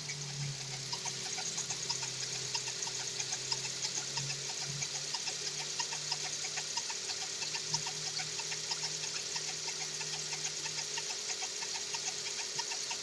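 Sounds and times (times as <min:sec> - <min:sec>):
quick irregular engine ticking: 0:00.0 - 0:13.0.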